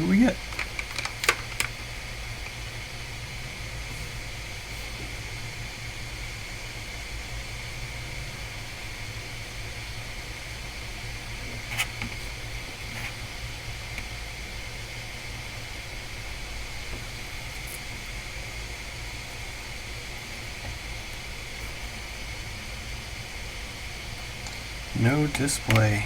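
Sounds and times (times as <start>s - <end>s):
low electrical hum and hiss: 0.0s - 26.0s.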